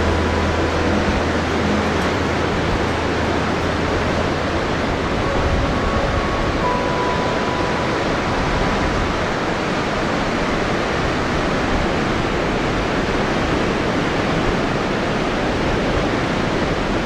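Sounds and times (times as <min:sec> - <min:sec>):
waves crashing on beach: 0:00.0 - 0:17.0.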